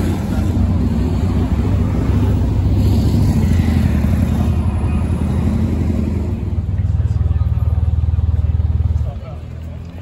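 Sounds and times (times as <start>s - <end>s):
traffic engines humming: 0.0s - 10.0s.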